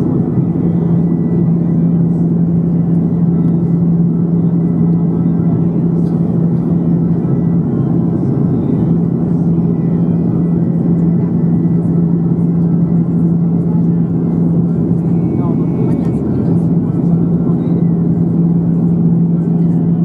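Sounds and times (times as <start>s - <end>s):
airplane cabin noise: 0.0s - 20.0s
low hum: 0.0s - 20.0s.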